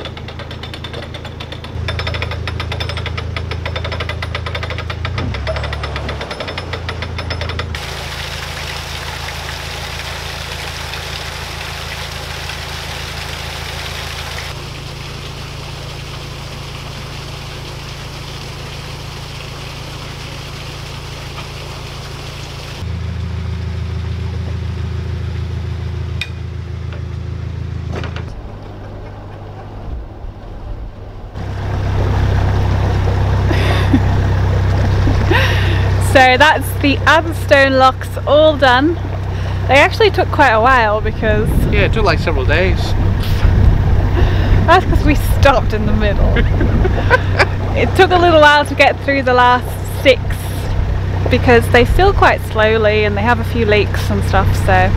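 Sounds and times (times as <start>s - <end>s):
water gushing into lock: 0.0s - 22.9s, 28.3s - 53.1s
boat engine running: 0.0s - 54.9s.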